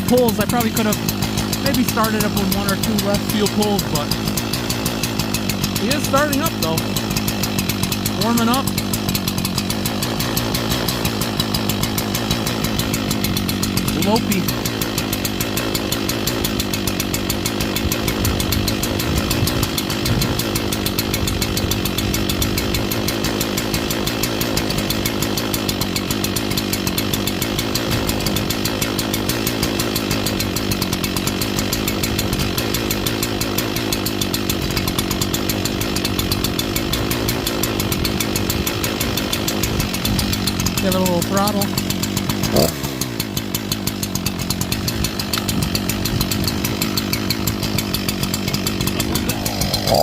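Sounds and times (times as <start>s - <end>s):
chainsaw idling: 0.0s - 50.0s.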